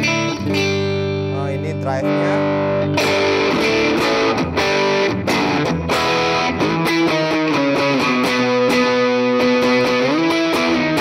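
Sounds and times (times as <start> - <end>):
overdriven electric guitar chords: 0.0 - 11.0.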